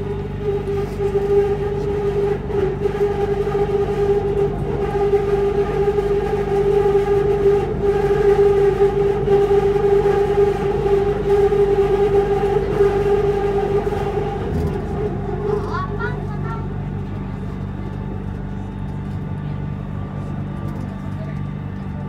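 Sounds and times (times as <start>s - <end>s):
train rumble on track: 0.0s - 22.0s
train traction drive whine: 0.0s - 22.0s.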